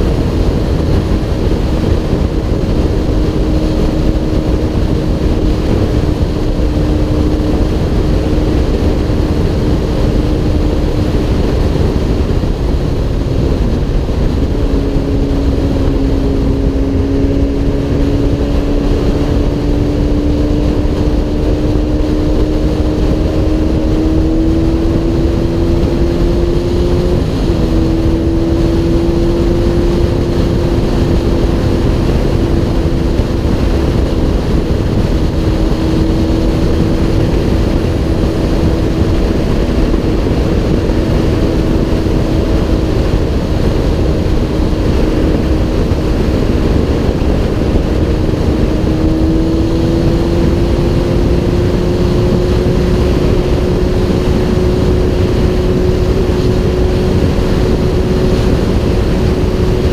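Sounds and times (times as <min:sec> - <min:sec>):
motorcycle engine cruising: 0:00.0 - 0:59.9
wind rush on camera: 0:00.0 - 0:59.9.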